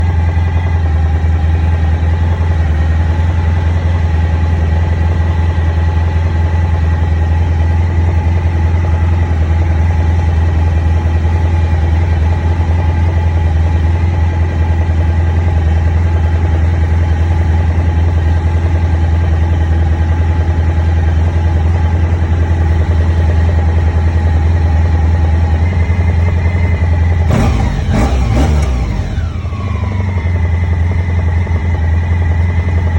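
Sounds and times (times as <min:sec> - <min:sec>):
engine knocking: 0:00.0 - 0:32.9
motorcycle engine idling: 0:00.0 - 0:32.9.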